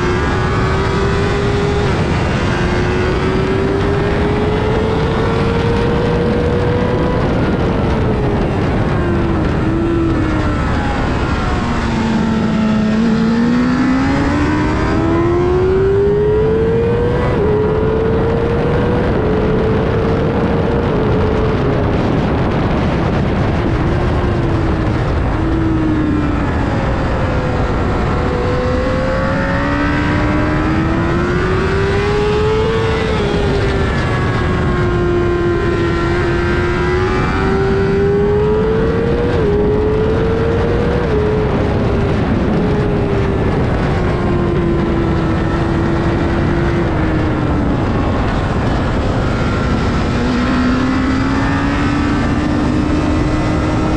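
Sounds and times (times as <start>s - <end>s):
heavy wind rush: 0.0s - 53.9s
motorcycle engine accelerating: 0.0s - 53.9s.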